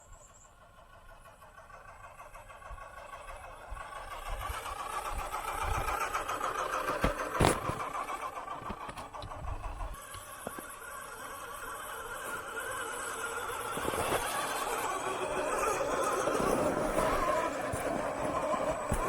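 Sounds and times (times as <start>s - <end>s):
toy truck motor whining: 0.0s - 19.0s.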